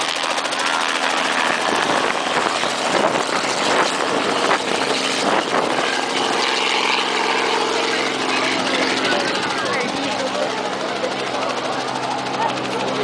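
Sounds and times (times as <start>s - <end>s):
propeller aircraft engine: 0.0s - 13.0s
propeller wash and wind rush: 0.0s - 13.0s.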